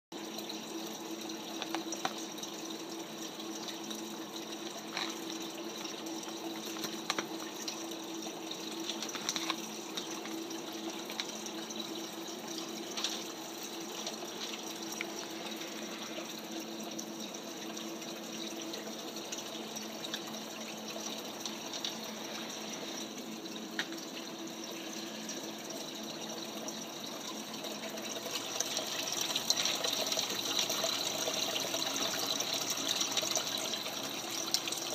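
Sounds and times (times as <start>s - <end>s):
pump motor hum: 0.2s - 34.9s
water pouring into tank: 0.2s - 34.9s.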